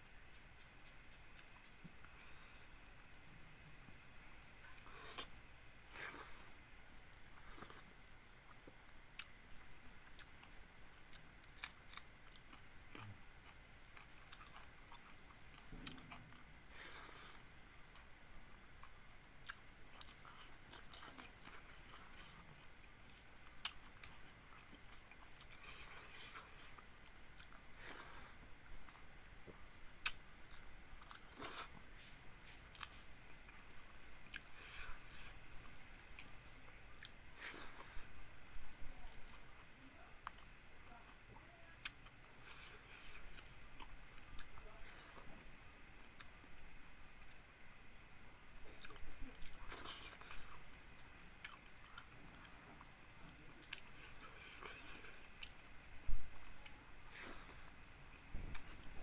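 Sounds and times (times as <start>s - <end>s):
crickets trilling: 0.0s - 59.0s
steady high-pitched whine: 0.0s - 59.0s
person chewing food: 3.9s - 46.4s, 48.5s - 55.8s.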